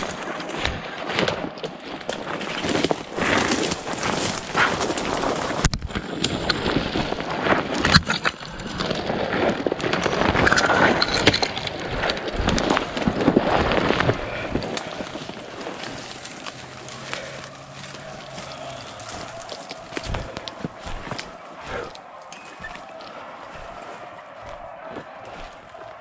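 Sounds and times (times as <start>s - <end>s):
footsteps crunching through dry leaves: 0.0s - 7.6s, 9.1s - 26.0s
twigs cracking and snapping: 0.0s - 26.0s.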